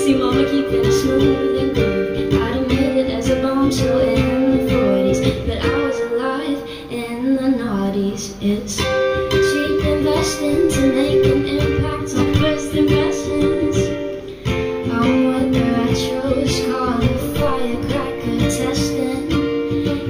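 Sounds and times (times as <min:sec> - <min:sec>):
electric ukulele strumming: 0:00.0 - 0:20.0.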